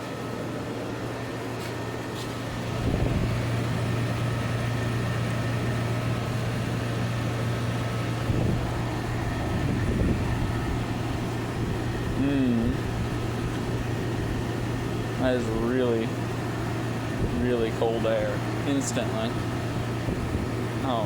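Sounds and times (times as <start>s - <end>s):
blower rushing: 0.0s - 21.0s
compressor hum: 0.0s - 21.0s.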